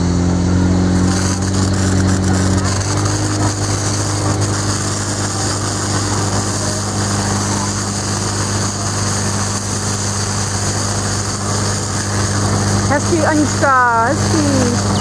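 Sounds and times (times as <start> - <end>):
pump engine running: 0.0 - 15.0
water jets spraying: 0.0 - 15.0.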